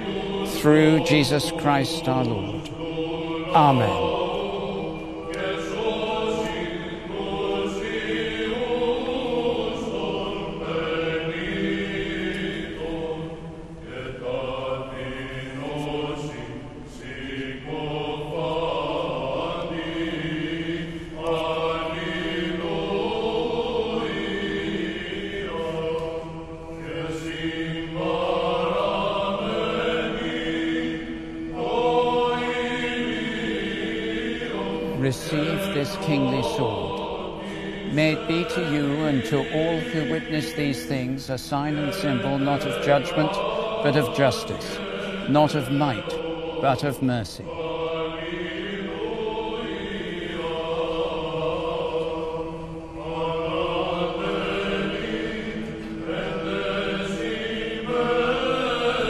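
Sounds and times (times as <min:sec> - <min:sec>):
choir chanting in unison: 0:00.0 - 0:59.0.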